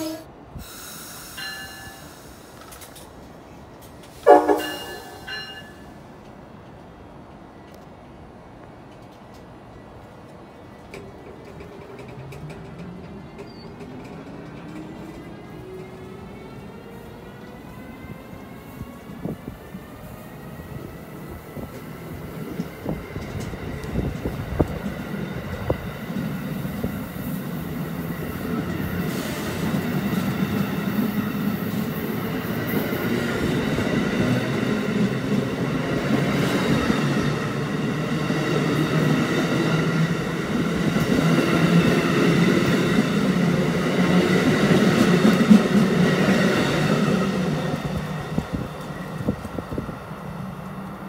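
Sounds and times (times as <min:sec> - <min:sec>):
train rolling on rails: 0:00.0 - 0:51.0.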